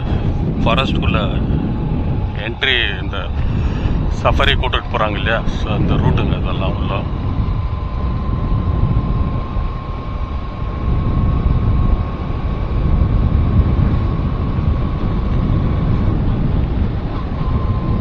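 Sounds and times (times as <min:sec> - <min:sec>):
faint steady whine: 0:00.0 - 0:18.0
road noise rumble: 0:00.0 - 0:18.0
wind buffeting microphone: 0:00.0 - 0:18.0.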